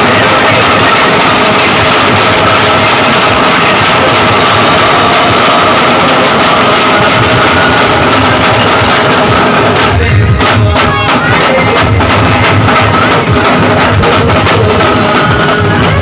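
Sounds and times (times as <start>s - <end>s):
drums played with sticks: 0.0s - 16.0s.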